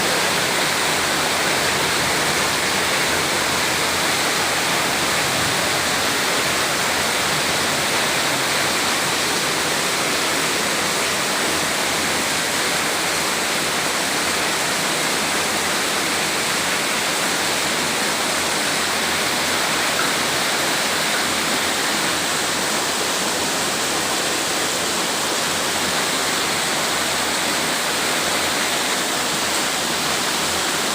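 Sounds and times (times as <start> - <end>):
rain in strong wind: 0.0 - 30.9.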